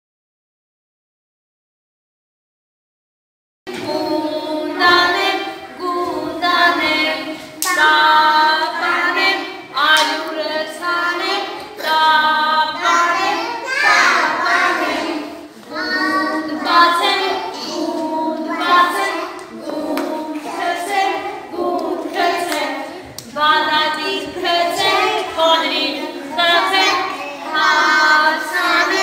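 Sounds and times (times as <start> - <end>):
children singing together: 3.7 - 29.0.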